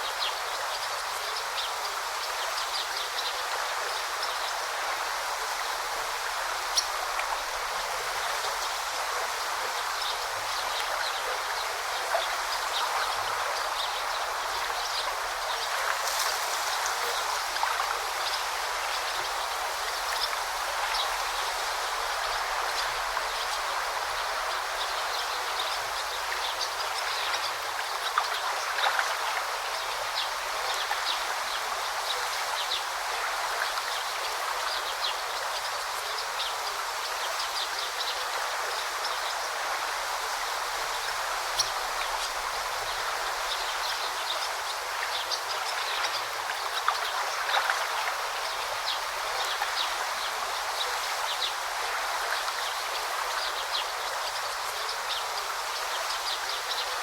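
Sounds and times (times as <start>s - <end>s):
river babbling: 0.0s - 57.0s.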